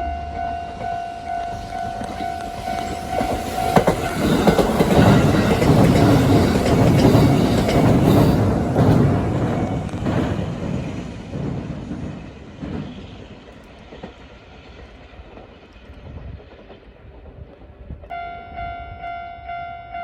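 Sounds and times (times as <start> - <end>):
train wheels clacking over rail joints: 1.3 - 17.7.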